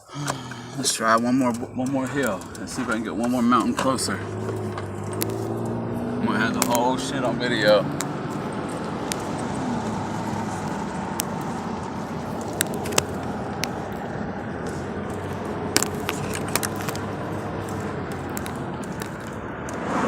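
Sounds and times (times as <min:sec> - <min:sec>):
car engine and tyre noise: 0:00.0 - 0:20.0
sharp clicks inside car: 0:00.2 - 0:19.9.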